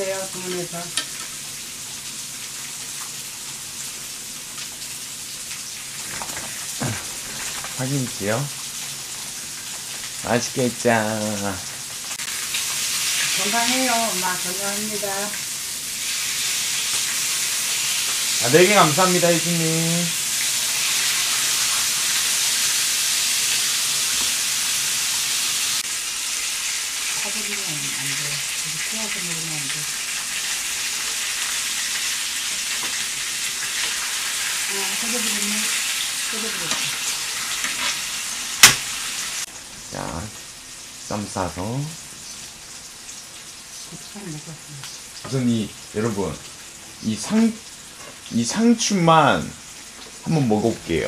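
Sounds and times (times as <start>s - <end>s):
pork sizzling in a pan: 0.0s - 51.0s.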